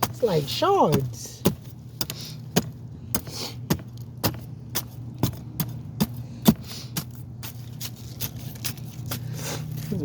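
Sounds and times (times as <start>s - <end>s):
digging in frozen soil clinks: 0.0s - 10.0s
low steady hum: 0.0s - 10.0s.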